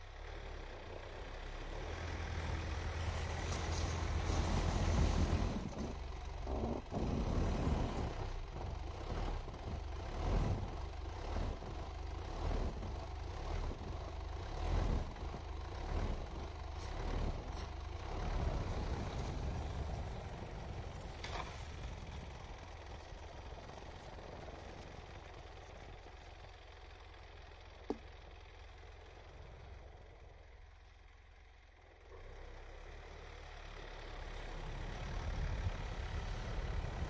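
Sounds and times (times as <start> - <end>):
diesel engine running under load: 0.0 - 37.0.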